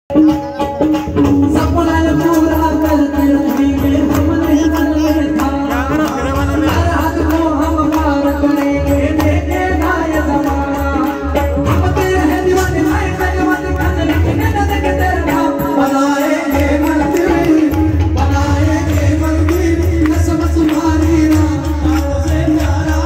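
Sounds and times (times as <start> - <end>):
hand drum beat: 0.1 - 23.0
devotional song melody: 0.2 - 23.0.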